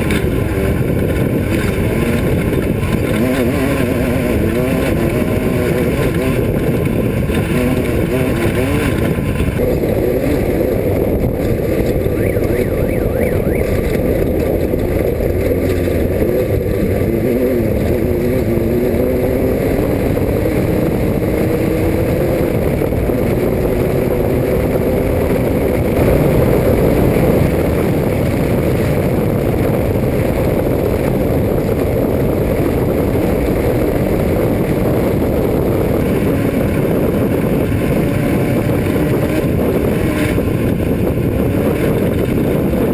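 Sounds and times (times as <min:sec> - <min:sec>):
race car engine revving: 0:00.0 - 0:42.9
steady rushing noise: 0:00.0 - 0:42.9.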